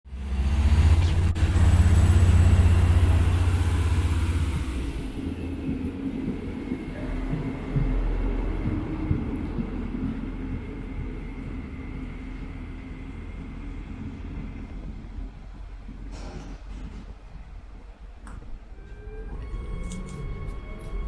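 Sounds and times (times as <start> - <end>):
train rumbling past: 0.1 - 21.0.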